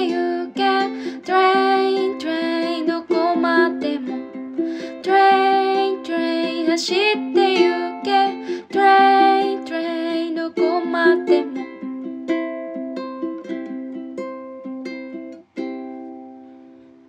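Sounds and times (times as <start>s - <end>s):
plucked string instrument: 0.0s - 17.0s.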